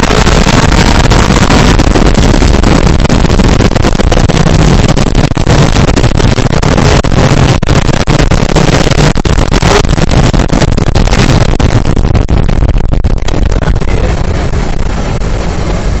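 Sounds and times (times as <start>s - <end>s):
buggy engine running hard: 0.0s - 16.0s.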